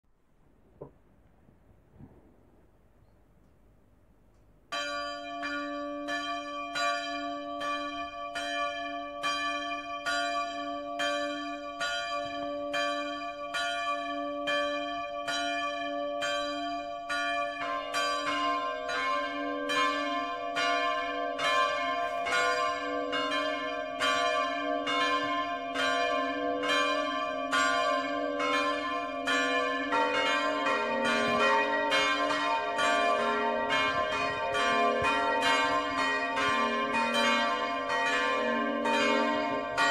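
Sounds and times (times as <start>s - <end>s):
church bells ringing: 4.7s - 39.9s.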